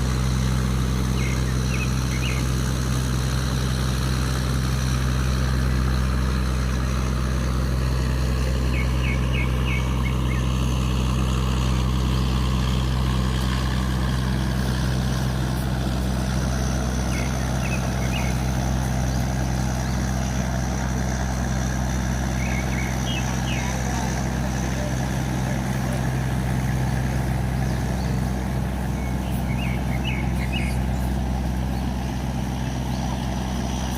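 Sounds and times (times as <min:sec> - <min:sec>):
diesel engine droning: 0:00.0 - 0:33.9.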